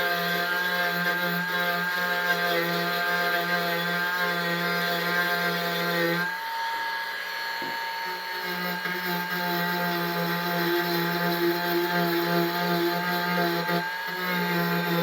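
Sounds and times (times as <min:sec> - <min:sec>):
rotary tool whining: 0:00.0 - 0:15.0.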